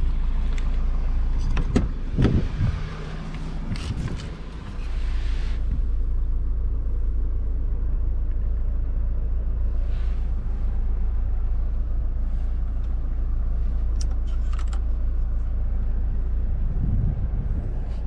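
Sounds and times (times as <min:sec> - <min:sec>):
car engine rumble inside cabin: 0:00.0 - 0:18.0.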